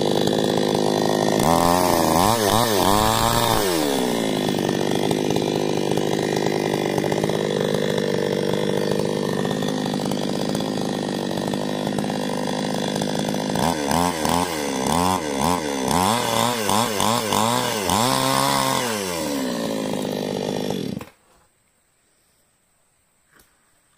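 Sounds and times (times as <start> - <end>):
chainsaw running and revving: 0.0 - 21.2.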